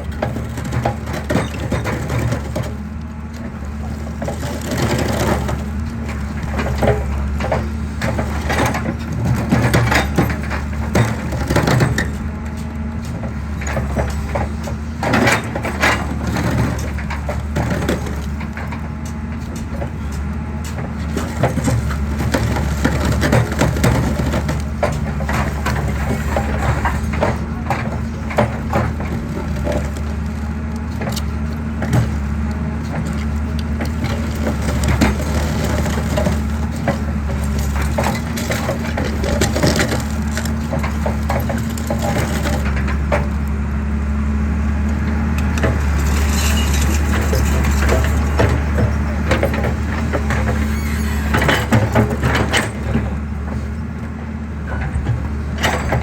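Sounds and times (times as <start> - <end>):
concrete cracking and crunching: 0.0 - 43.6, 44.8 - 53.3
excavator diesel engine running: 0.0 - 56.0.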